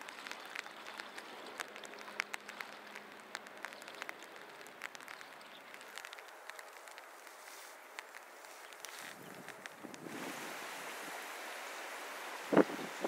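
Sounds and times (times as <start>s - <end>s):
river water trickling: 0.0s - 13.0s
small water splashes: 0.0s - 13.0s.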